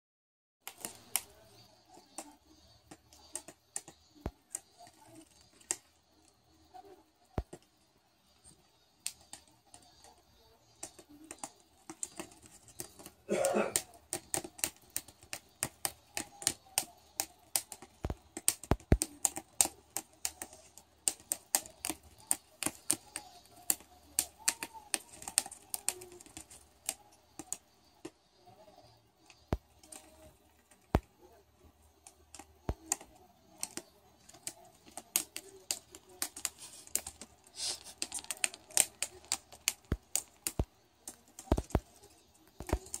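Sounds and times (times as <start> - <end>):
bird beak snipping paper: 0.6 - 7.7, 8.5 - 28.1, 29.2 - 31.2, 31.9 - 43.0.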